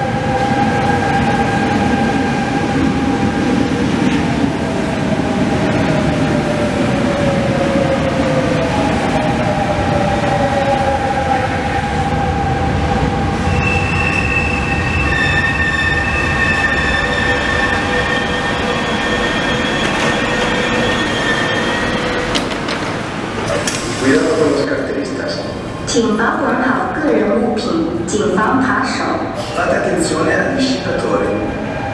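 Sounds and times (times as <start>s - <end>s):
train wheels rumbling on rail: 0.0s - 25.9s.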